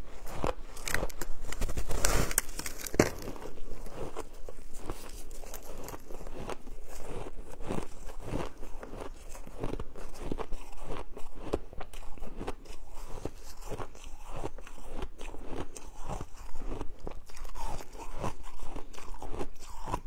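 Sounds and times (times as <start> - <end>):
shaved ice being chewed: 0.0 - 20.0.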